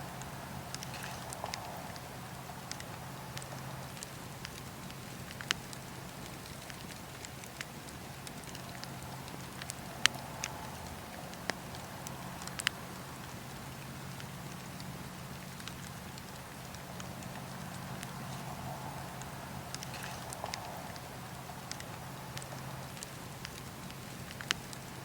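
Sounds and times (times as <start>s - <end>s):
campfire hissing: 0.0s - 25.0s
wood crackling and popping: 0.0s - 25.0s.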